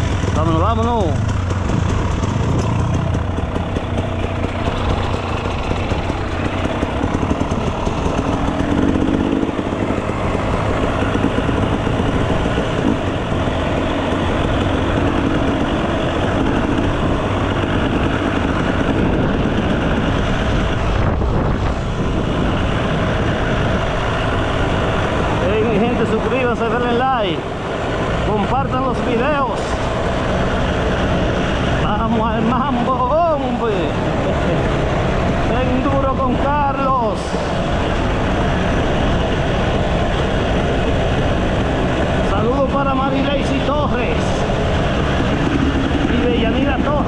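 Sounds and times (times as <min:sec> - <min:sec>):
dirt bike engine running: 0:00.0 - 0:47.0.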